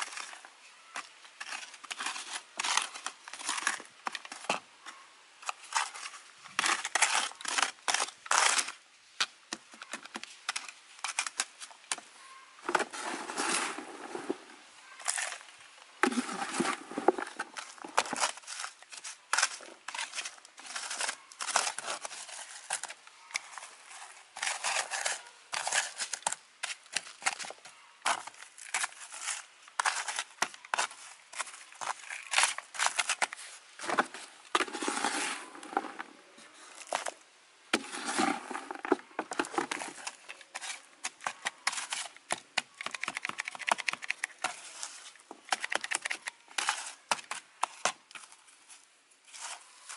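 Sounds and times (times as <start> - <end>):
scoop scraping gritty soil: 0.0 - 4.6, 12.6 - 42.4, 44.2 - 49.9.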